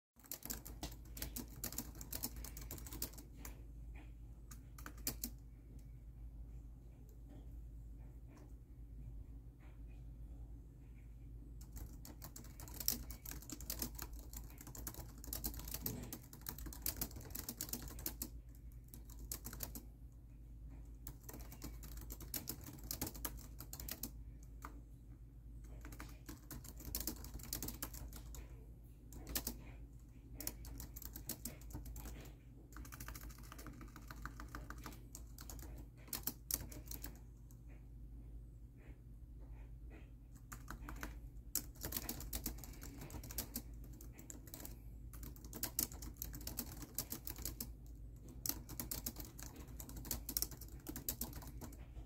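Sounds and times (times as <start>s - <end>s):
laptop keyboard typing: 0.2s - 5.5s, 11.6s - 20.0s, 20.7s - 24.8s, 25.6s - 37.8s, 40.4s - 52.0s
low steady hum: 0.2s - 52.0s.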